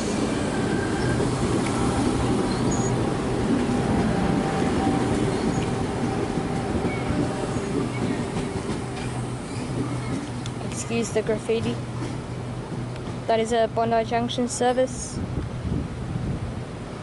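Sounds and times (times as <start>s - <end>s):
electric train running past: 0.0s - 17.0s.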